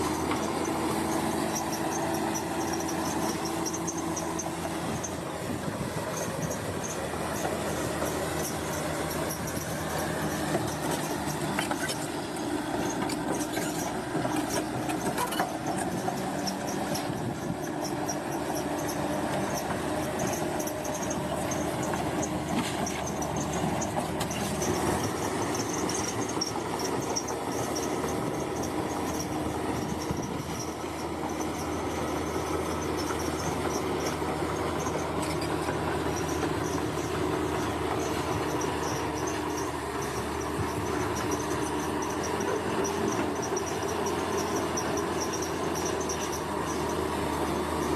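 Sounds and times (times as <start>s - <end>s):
bulldozer engine running: 0.0s - 47.9s
machinery rattling: 0.0s - 47.9s.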